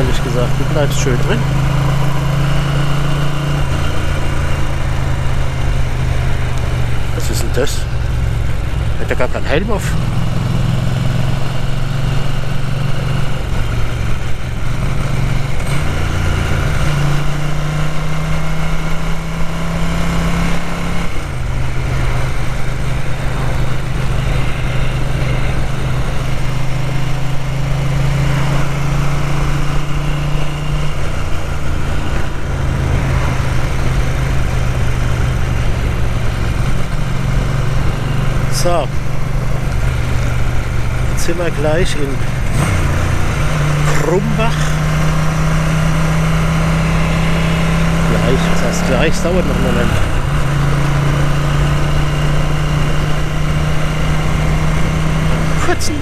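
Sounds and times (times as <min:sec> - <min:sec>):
motorcycle engine running unevenly: 0:00.0 - 0:56.0.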